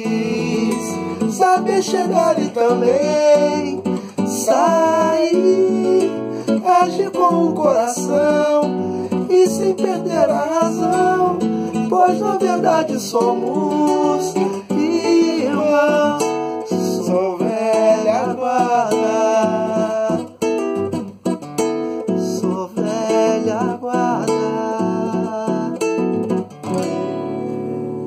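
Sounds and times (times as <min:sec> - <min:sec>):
person singing wordlessly: 0:00.0 - 0:20.4, 0:22.2 - 0:26.1
nylon-string guitar strummed: 0:00.0 - 0:28.0.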